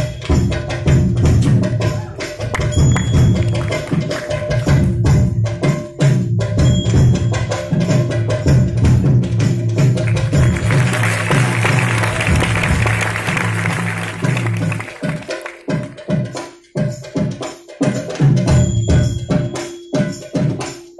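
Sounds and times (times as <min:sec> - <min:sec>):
hand drum fast rhythm: 0:00.0 - 0:20.9.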